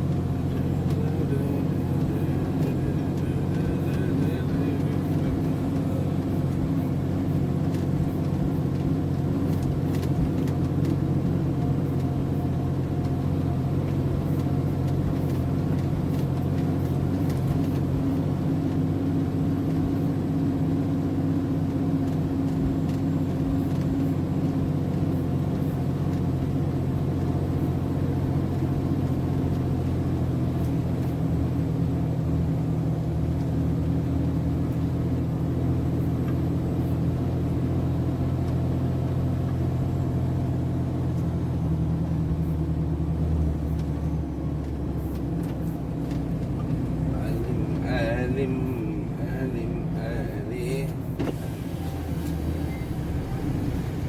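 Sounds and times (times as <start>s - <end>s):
lorry diesel engine droning: 0.0s - 54.0s.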